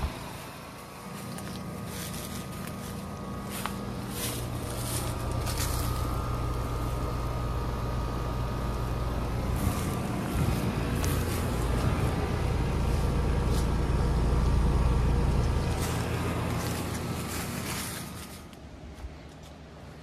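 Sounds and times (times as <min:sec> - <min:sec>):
faint steady whine: 0:00.0 - 0:20.0
heat pump humming: 0:00.0 - 0:20.0.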